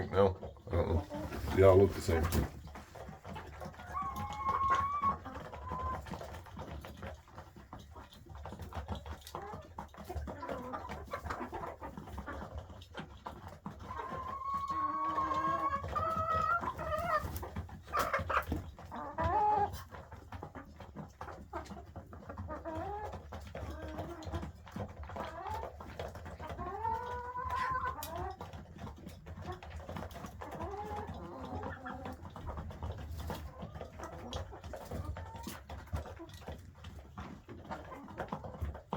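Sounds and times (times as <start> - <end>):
hens calling and clucking: 0.0 - 38.9.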